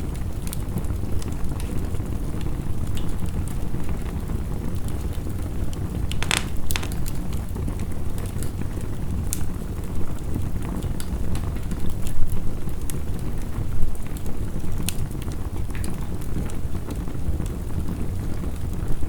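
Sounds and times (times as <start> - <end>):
heavy rain: 0.0 - 19.0
wood fire crackling: 0.0 - 19.0.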